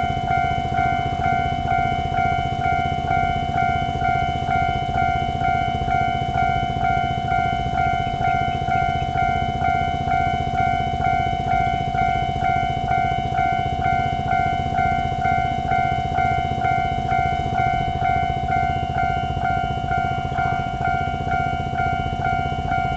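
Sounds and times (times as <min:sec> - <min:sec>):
level crossing warning bell: 0:00.0 - 0:22.9.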